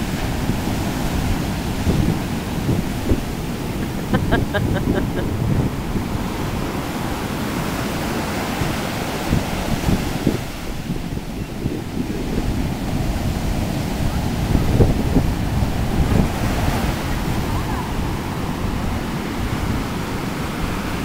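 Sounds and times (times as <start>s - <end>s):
surf crashing: 0.0s - 21.0s
wind buffeting microphone: 0.0s - 21.0s.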